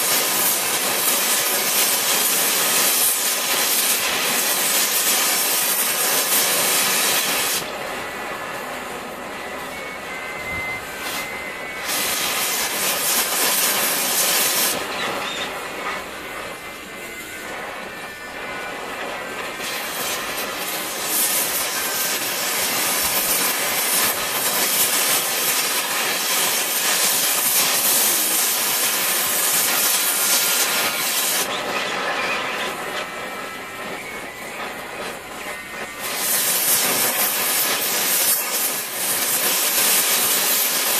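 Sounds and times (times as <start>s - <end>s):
cutting torch flame hissing: 0.0s - 40.9s.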